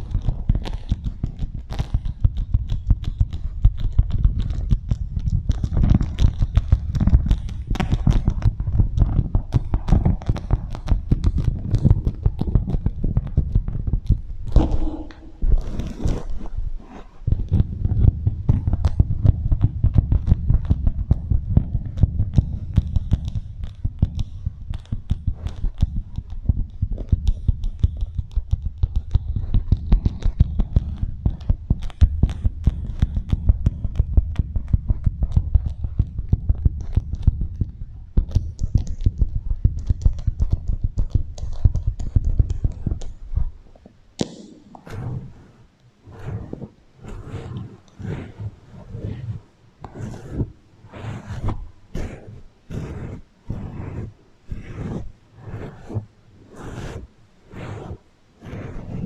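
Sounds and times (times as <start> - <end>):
wax wrap crackling on microphone: 0.0 - 59.0.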